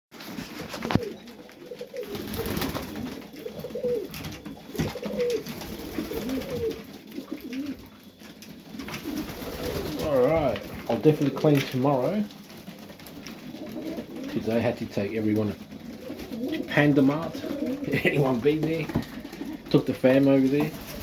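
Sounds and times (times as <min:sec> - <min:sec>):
pigeons cooing: 0:00.3 - 0:21.0.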